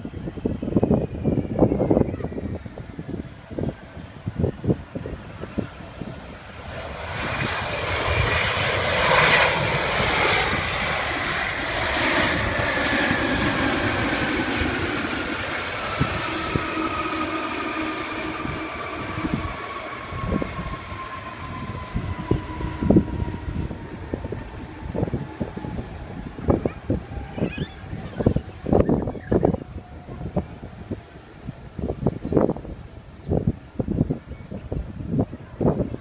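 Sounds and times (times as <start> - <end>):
jet airliner landing: 0.0 - 36.0.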